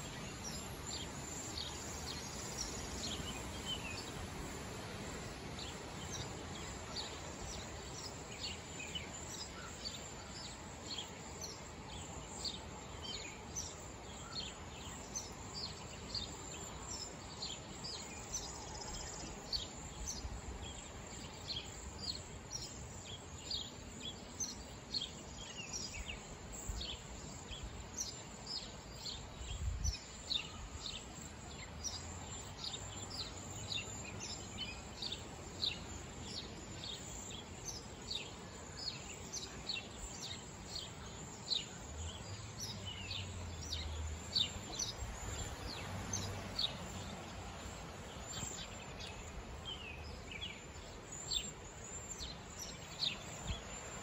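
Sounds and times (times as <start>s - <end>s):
faint background noise: 0.0s - 54.0s.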